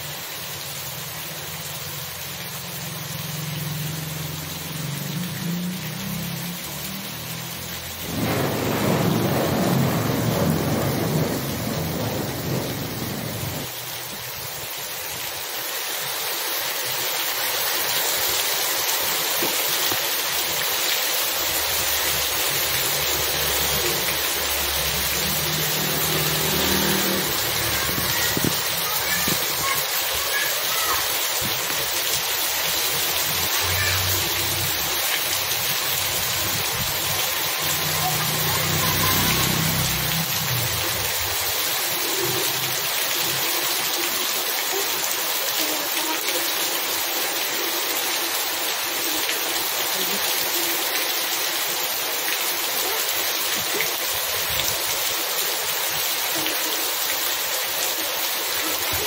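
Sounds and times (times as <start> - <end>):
heavy rain on paved road: 0.0 - 59.0.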